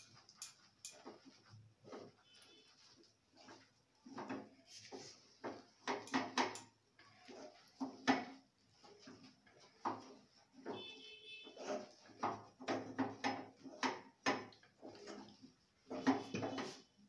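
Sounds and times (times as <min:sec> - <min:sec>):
wooden spatula scraping metal pan: 0:00.0 - 0:17.0.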